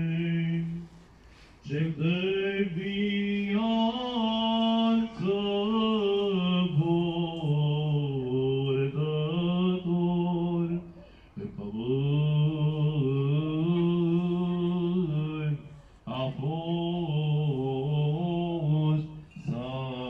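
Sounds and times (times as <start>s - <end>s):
man chanting a hymn: 0.0s - 20.0s.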